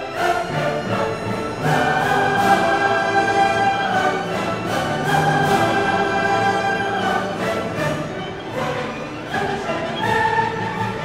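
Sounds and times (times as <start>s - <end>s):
orchestral strings holding long notes: 0.0s - 11.0s.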